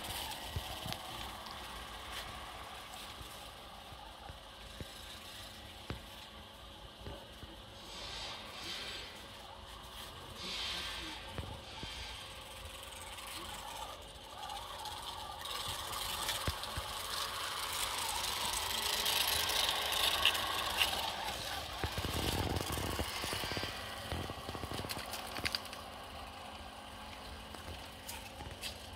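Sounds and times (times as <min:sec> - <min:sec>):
model locomotive whirring: 0:00.0 - 0:28.9
wheels clicking on track: 0:00.0 - 0:28.9.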